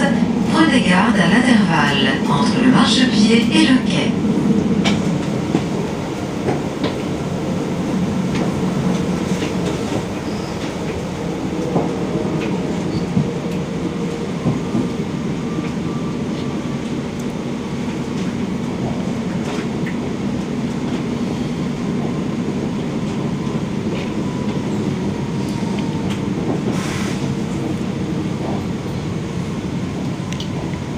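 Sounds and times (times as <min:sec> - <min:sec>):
train rumbling on rails: 0:00.0 - 0:30.9.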